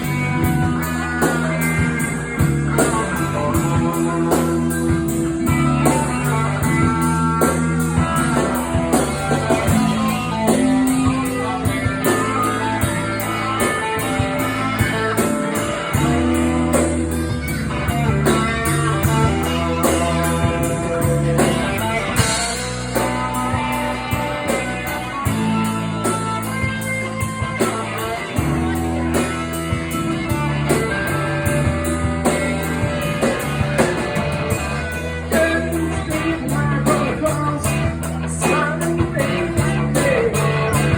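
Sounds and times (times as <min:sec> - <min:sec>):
instrumental blues-rock band: 0:00.0 - 0:40.9.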